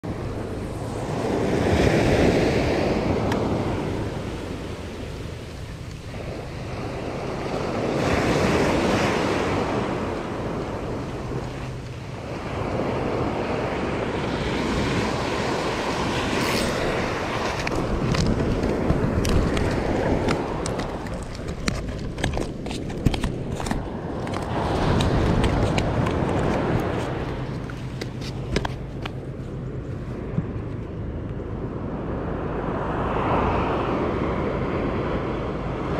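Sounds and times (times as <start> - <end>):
ocean surf breaking: 0.0 - 30.4, 31.8 - 35.9
wind buffeting microphone: 0.0 - 35.9.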